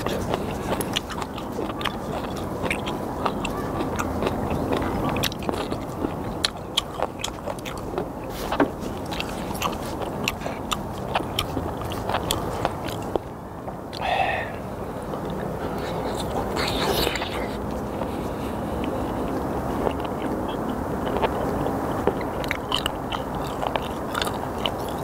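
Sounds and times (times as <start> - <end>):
low background noise: 0.0 - 25.0
wet chewing: 0.0 - 25.0.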